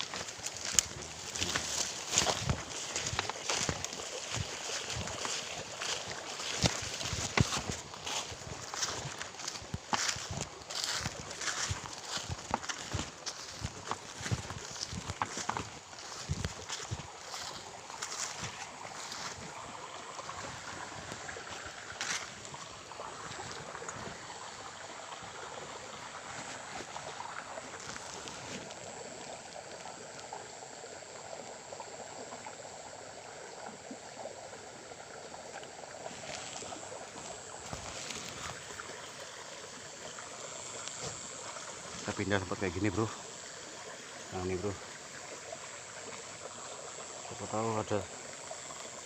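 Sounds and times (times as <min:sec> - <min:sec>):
stream flowing: 0:00.0 - 0:49.0.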